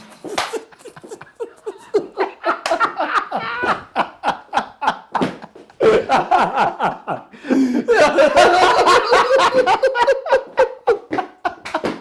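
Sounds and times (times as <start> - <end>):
person laughing heartily: 0.1 - 12.0.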